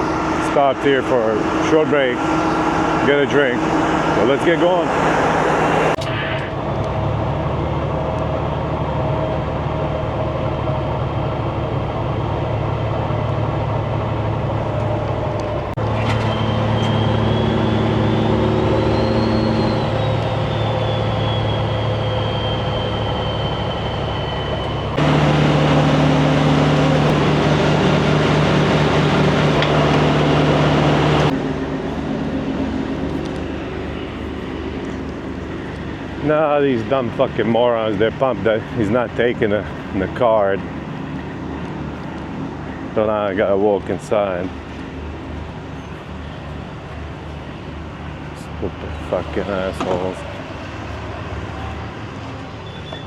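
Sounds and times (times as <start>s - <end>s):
diesel truck engine driving: 0.0s - 53.0s.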